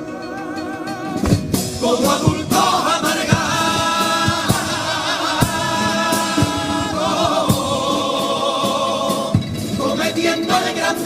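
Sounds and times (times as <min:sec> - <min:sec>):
chorus singing in harmony: 0:00.0 - 0:11.0
low drum beats: 0:01.2 - 0:10.1.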